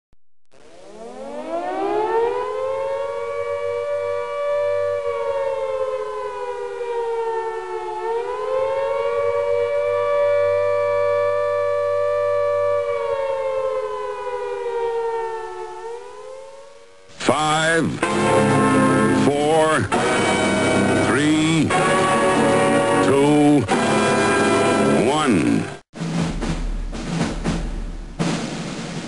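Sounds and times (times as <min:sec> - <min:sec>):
air-raid siren wailing: 0:00.6 - 0:17.2, 0:17.9 - 0:25.8.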